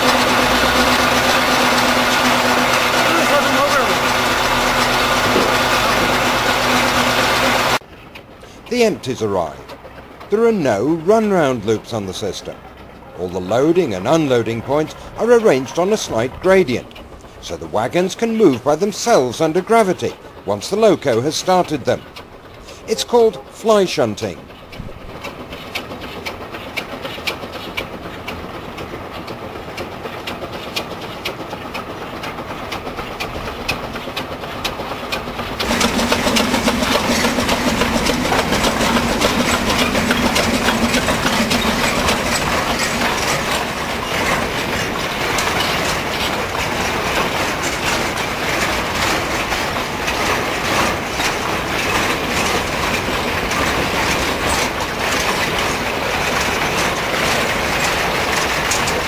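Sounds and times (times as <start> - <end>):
steam locomotive train running: 0.0 - 59.0
wagons rattling: 0.0 - 59.0
wheels clicking over rail joints: 0.0 - 59.0.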